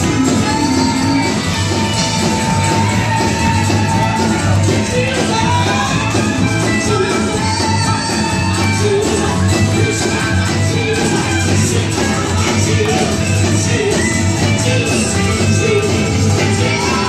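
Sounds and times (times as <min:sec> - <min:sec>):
drum kit: 0:00.0 - 0:17.0
electric guitars: 0:00.0 - 0:17.0
voices singing and shouting: 0:00.0 - 0:17.0.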